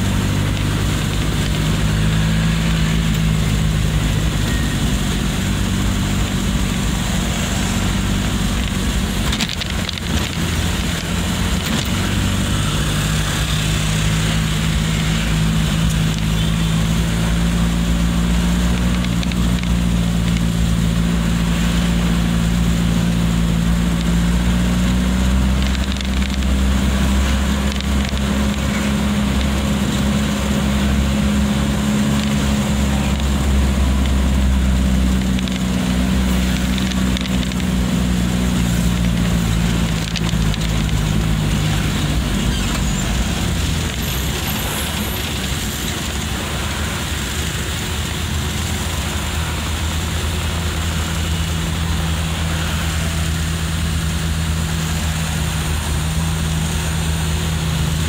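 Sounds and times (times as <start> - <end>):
car engine hum: 0.0 - 58.0
tyre road noise: 0.0 - 58.0.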